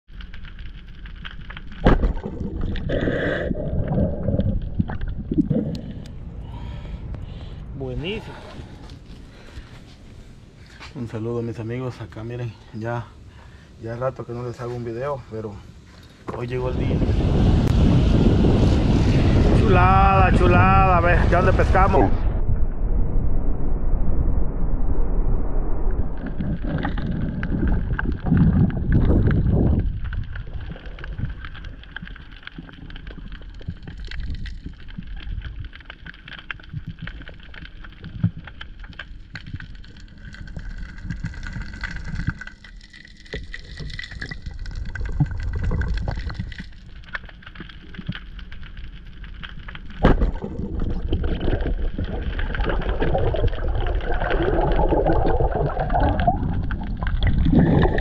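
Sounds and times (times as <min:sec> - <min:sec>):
muffled underwater water rush: 0:00.1 - 0:10.7, 0:15.7 - 0:58.0
faint underwater crackling: 0:00.1 - 0:16.9, 0:25.0 - 0:58.0.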